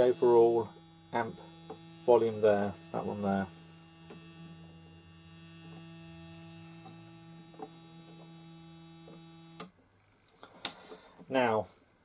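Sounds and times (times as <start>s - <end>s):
low buzzy tone from speaker: 0.0s - 9.7s.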